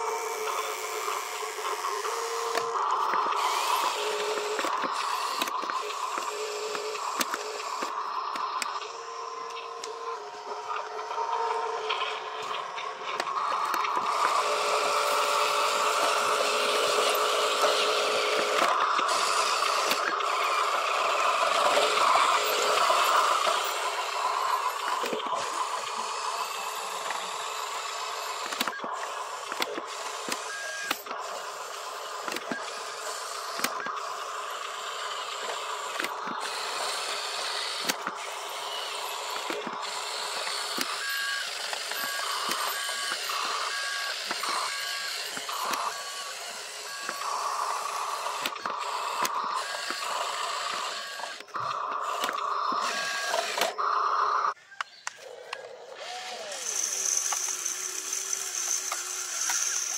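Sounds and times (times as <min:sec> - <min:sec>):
toy truck motors whining: 0:00.0 - 0:59.9
clicks: 0:00.4 - 0:26.0, 0:28.3 - 0:31.3, 0:32.2 - 0:32.8, 0:33.4 - 0:34.0, 0:34.6 - 0:56.1.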